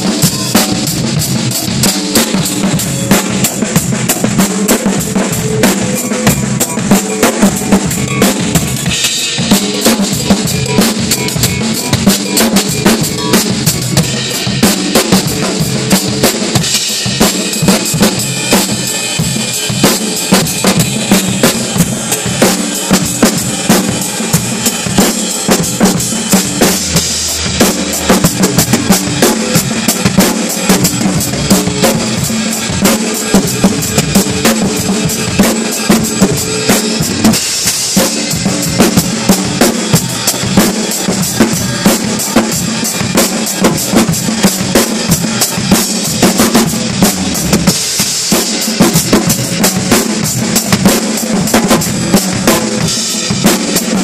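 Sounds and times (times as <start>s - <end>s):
drum kit beat: 0.0s - 54.0s.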